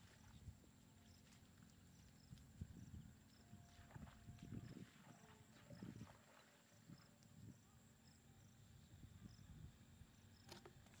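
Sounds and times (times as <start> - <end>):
faint high whine: 0.0 - 11.0
insects chirping: 0.0 - 11.0.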